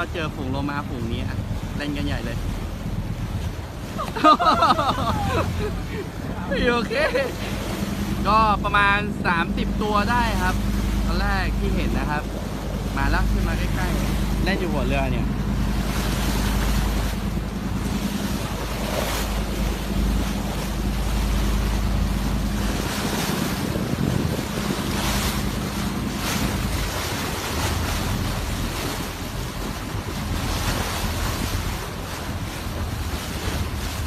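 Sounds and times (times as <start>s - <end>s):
boat engine humming: 0.0s - 34.0s
water rushing along hull: 0.0s - 34.0s
wind buffeting microphone: 0.0s - 34.0s.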